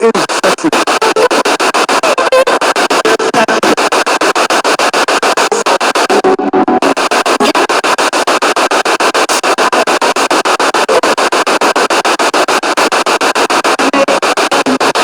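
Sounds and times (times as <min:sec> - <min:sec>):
pulsing radio static: 0:00.0 - 0:15.0
snatches of broadcast sound: 0:00.0 - 0:15.0.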